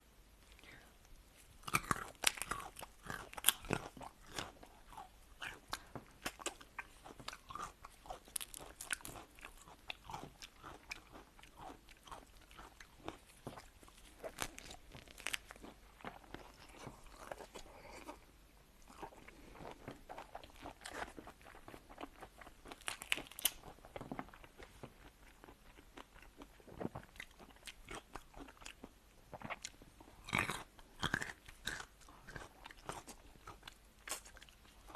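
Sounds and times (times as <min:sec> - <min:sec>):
crunching and chewing food: 0:00.4 - 0:34.9.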